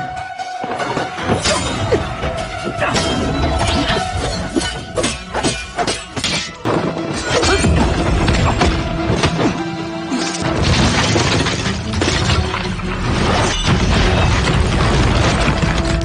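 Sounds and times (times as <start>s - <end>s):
dramatic background music: 0.0s - 16.0s.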